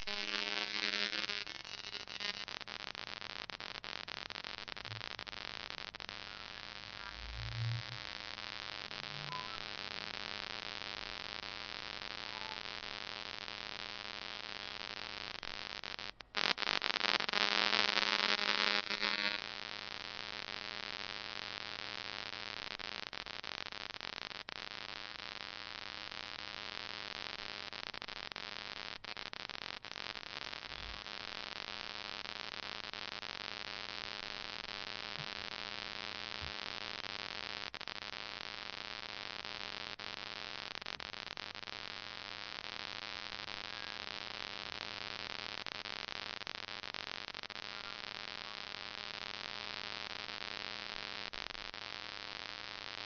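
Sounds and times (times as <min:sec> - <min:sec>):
static hiss: 0:00.0 - 0:53.0.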